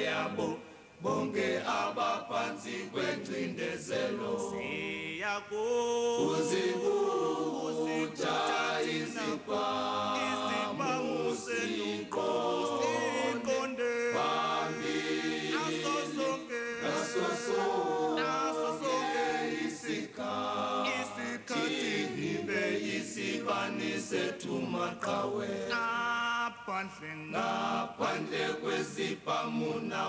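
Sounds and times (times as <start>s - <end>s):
a cappella choir singing: 0.0s - 30.0s.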